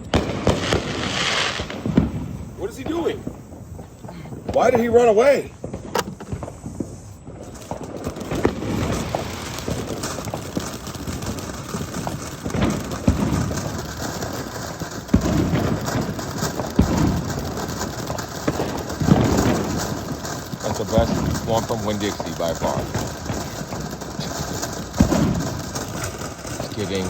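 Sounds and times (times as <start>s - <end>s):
firework bangs: 0.0s - 27.0s
firework crackling: 0.0s - 27.0s.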